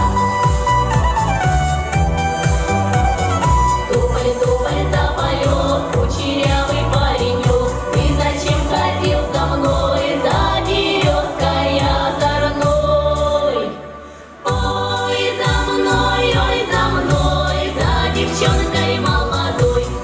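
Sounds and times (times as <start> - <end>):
music with steady beat: 0.0 - 13.9, 14.5 - 20.0
group singing: 3.7 - 20.0.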